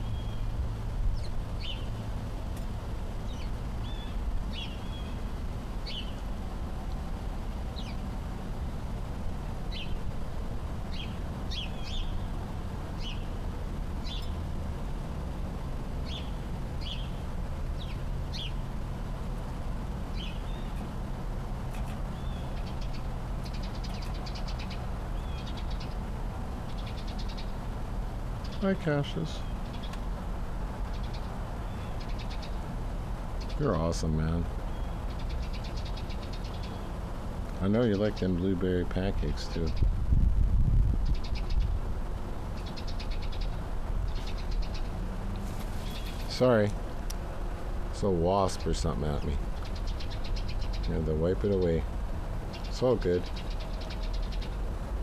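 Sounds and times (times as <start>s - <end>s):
small birds chirping: 0.0s - 14.6s, 15.4s - 40.0s, 40.8s - 55.0s
steady low rumble: 0.0s - 55.0s.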